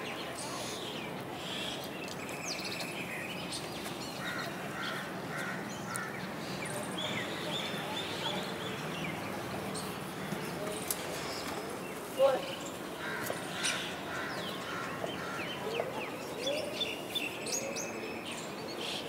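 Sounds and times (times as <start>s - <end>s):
birds calling: 0.0s - 19.0s
outdoor background noise: 0.0s - 19.0s.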